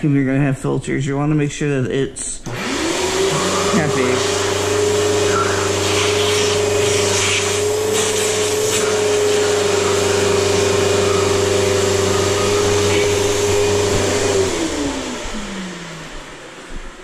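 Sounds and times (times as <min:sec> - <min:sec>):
vacuum cleaner motor whining: 0:02.4 - 0:17.0.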